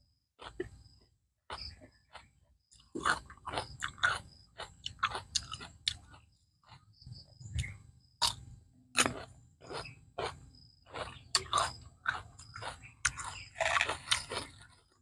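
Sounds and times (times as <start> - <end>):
chewing and lip-smacking: 0.4 - 8.4, 9.0 - 15.0.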